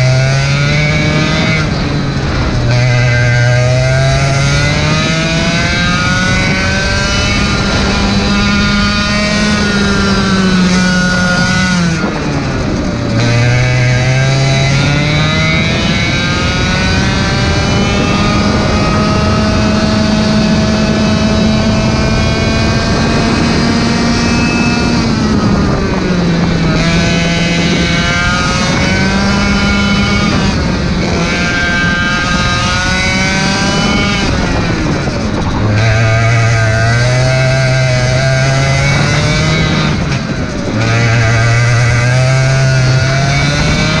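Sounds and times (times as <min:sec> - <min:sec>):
kart engine revving: 0:00.0 - 0:44.0.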